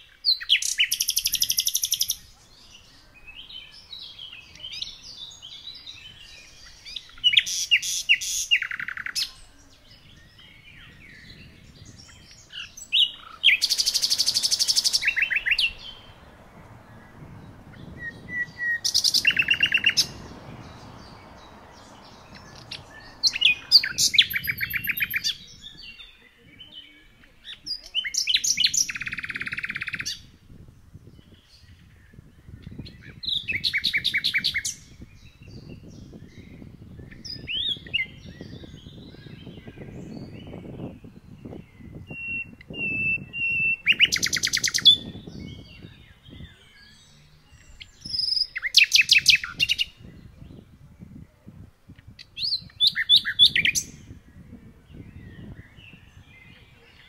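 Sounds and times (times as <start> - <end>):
songbird trilling: 0.0 - 30.3, 31.2 - 50.7, 52.0 - 57.0.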